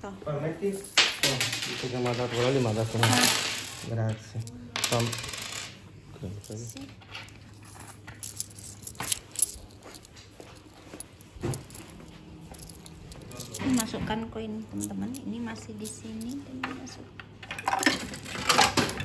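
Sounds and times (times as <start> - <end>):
coins clinking: 0.7 - 19.0.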